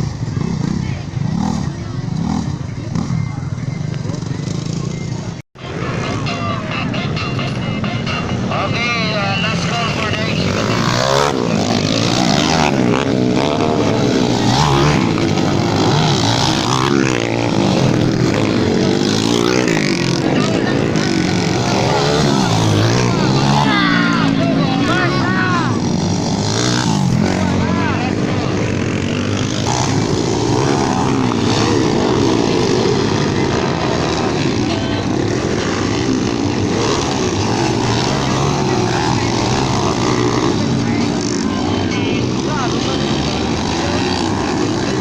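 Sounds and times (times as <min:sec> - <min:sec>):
dirt bikes racing: 0:00.0 - 0:45.0.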